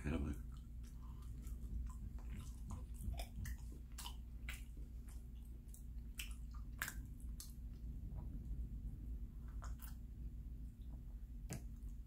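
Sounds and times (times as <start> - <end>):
man chewing bread: 0.0 - 12.0.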